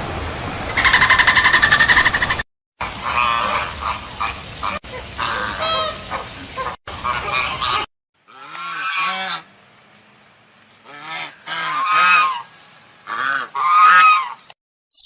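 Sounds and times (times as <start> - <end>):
waterfowl honking: 0.7 - 9.5, 10.8 - 14.4.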